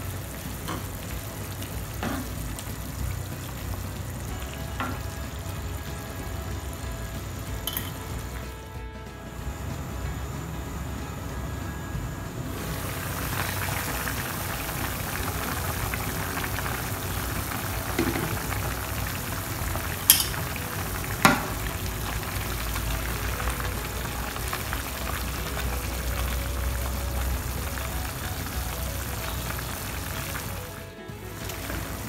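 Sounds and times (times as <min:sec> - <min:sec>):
broth bubbling and hissing: 0:00.0 - 0:08.4, 0:12.1 - 0:32.0.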